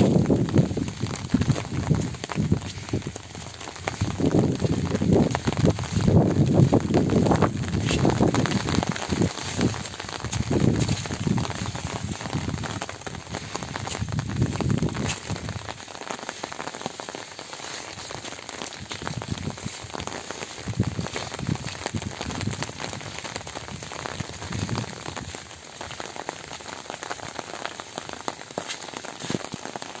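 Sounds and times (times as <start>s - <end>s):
rain pattering on leaves: 0.0s - 30.0s.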